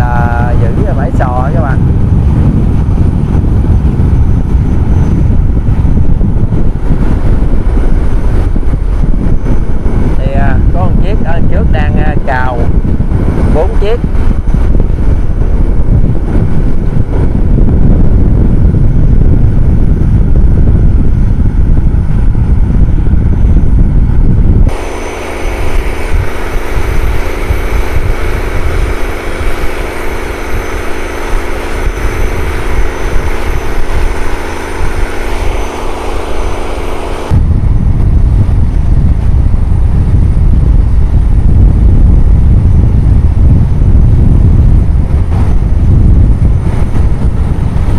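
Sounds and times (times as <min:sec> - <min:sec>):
boat engine drone: 0:00.0 - 0:47.9
rush of wind and water: 0:00.0 - 0:47.9.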